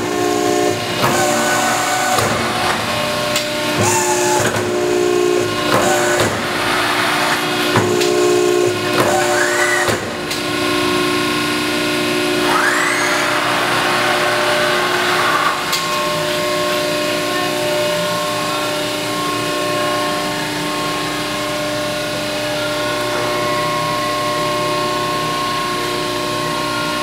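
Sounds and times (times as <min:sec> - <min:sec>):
hydraulic pump whine: 0:00.0 - 0:27.0.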